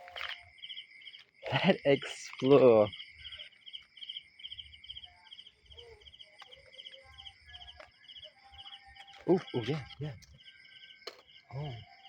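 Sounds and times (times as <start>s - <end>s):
continuous insect trill: 0.0s - 12.0s
crickets chirping: 0.0s - 12.0s.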